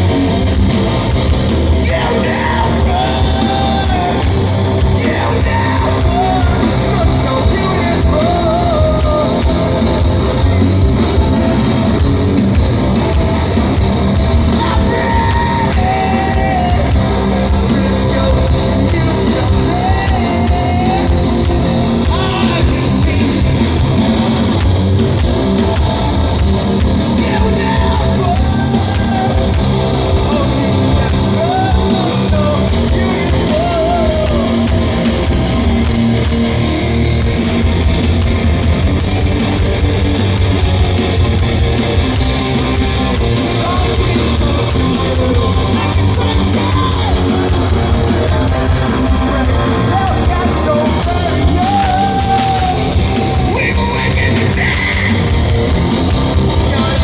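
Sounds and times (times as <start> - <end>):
heavy rock band playing: 0.0 - 57.0
sung and yelled vocals: 0.0 - 57.0.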